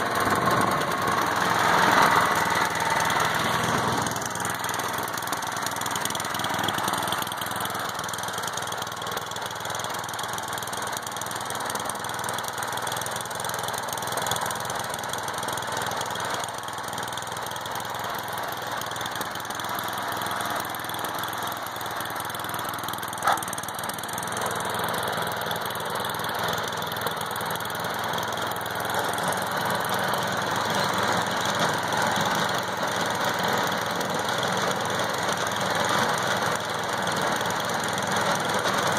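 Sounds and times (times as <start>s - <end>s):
snowthrower engine running: 0.0s - 38.9s.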